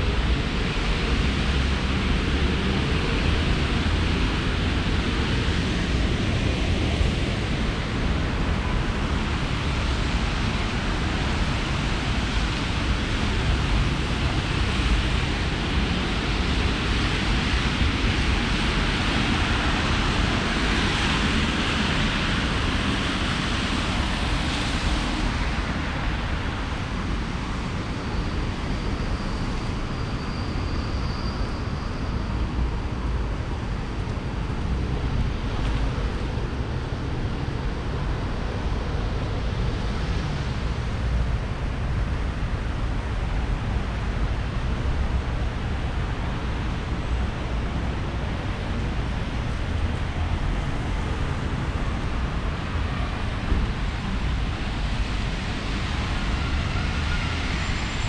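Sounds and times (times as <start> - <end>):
traffic on wet roads: 0.0 - 58.0.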